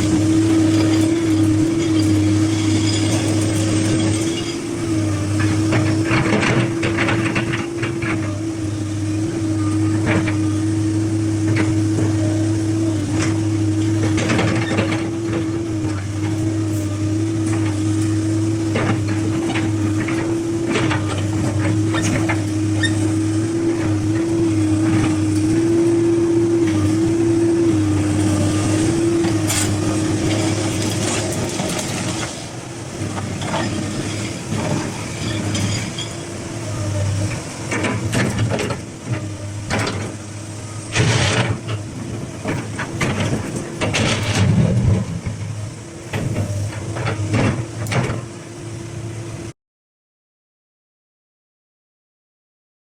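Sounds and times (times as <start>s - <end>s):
excavator engine drone: 0.0s - 49.6s.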